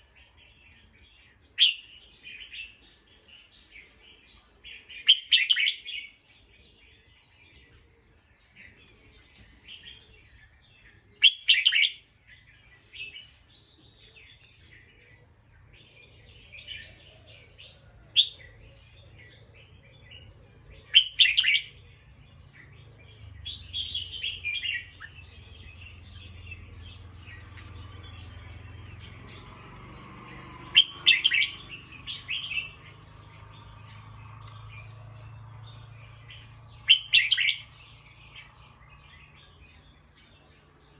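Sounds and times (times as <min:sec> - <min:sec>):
bird chirping calls: 0:00.0 - 0:40.9.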